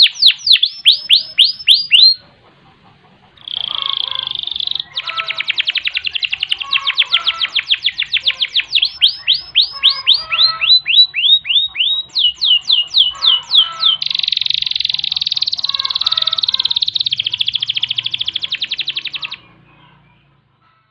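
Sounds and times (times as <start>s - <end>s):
canary singing: 0.0s - 20.9s.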